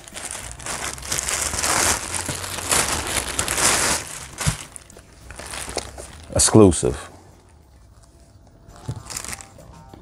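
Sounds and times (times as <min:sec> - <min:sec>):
plastic bag crinkling: 0:00.0 - 0:07.0, 0:07.9 - 0:09.6.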